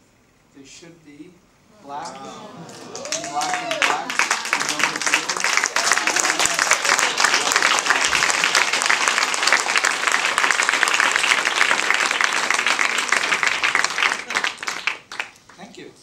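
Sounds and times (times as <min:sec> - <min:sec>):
audience applauding: 0:01.9 - 0:15.7.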